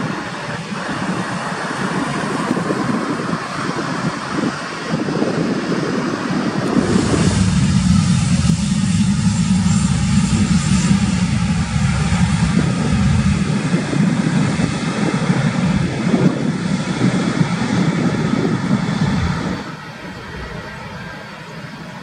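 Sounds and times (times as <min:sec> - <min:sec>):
jet engines at takeoff power: 0:00.0 - 0:22.0.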